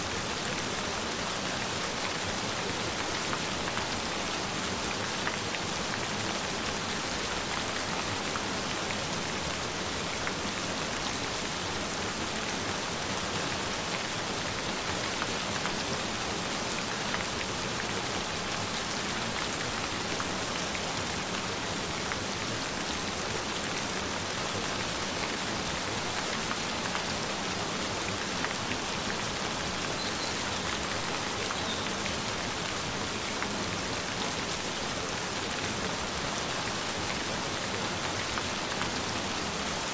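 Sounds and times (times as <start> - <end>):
steady gentle rain: 0.0 - 39.9.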